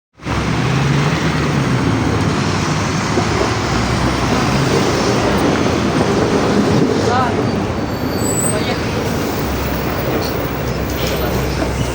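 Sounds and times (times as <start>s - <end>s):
bus engine drone: 0.2s - 11.9s
road and body noise: 0.2s - 11.9s.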